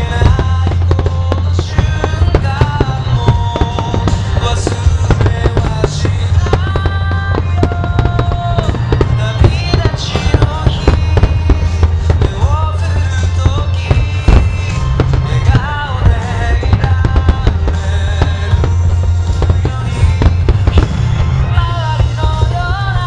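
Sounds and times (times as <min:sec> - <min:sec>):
fireworks bursting and crackling: 0:00.0 - 0:23.0
loud music with heavy bass: 0:00.0 - 0:23.0.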